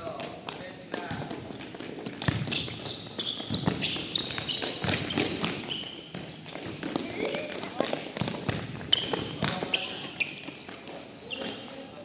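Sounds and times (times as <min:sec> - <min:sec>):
balls kicked and bouncing on floor: 0:00.0 - 0:11.8.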